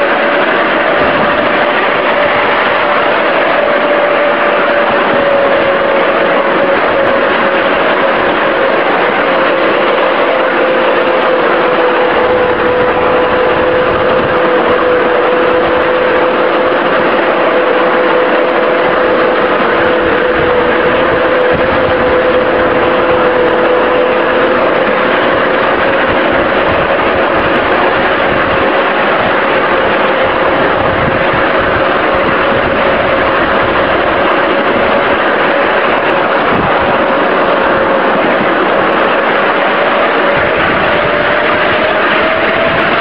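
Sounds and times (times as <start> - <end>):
electric locomotive drive whine: 0.0 - 43.0
small wheels rumbling on rails: 0.0 - 43.0.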